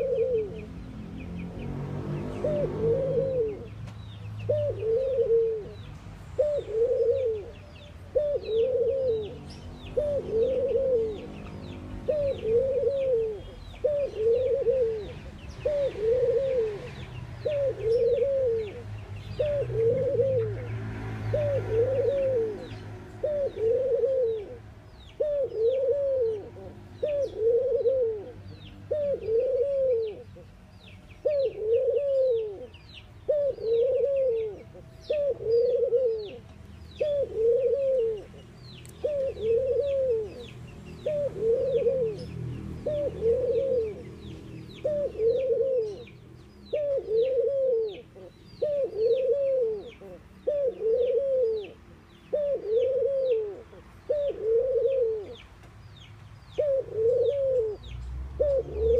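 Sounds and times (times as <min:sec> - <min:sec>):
dove cooing: 0:00.0 - 0:30.4, 0:31.2 - 0:55.4, 0:56.5 - 0:58.9
small birds chirping: 0:00.0 - 0:58.9.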